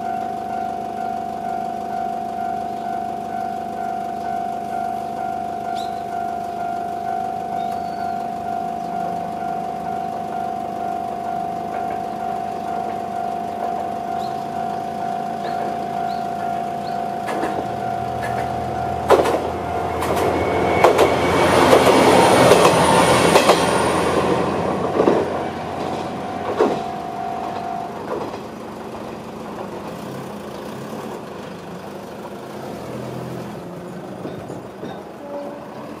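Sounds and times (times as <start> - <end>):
level crossing alarm ringing: 0.0 - 29.4
road vehicles moving off: 0.0 - 36.0
train wheels clacking: 0.0 - 36.0.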